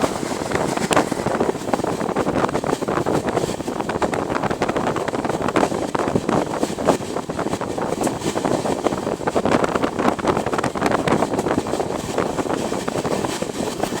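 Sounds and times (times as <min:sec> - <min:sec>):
train rumbling and clattering: 0:00.0 - 0:14.0
wind buffeting microphone: 0:00.0 - 0:14.0.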